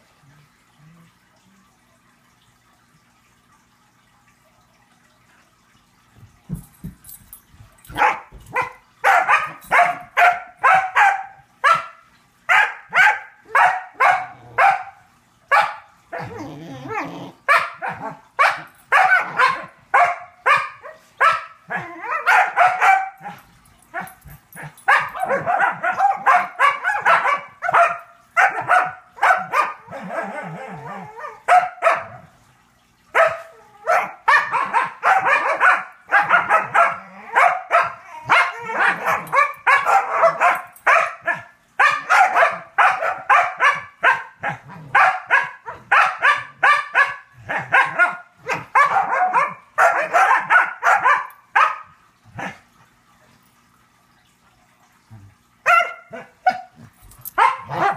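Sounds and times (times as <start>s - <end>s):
dogs barking and yipping: 6.5s - 32.2s, 33.1s - 52.6s, 55.6s - 57.9s.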